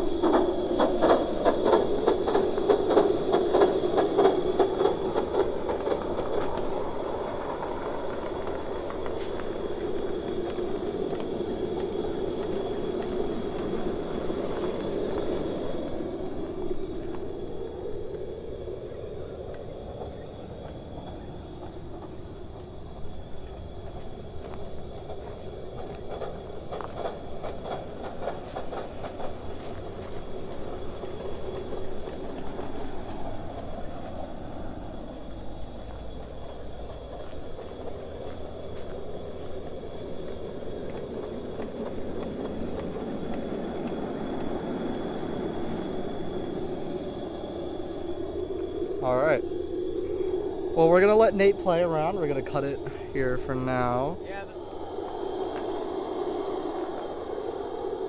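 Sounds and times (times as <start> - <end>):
locomotive exhaust beat: 0.0 - 53.4
steam locomotive running: 0.0 - 58.0.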